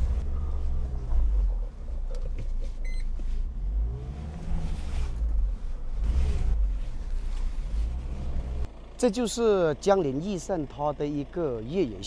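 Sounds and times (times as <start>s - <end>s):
diesel engine at low revs: 0.0s - 12.0s.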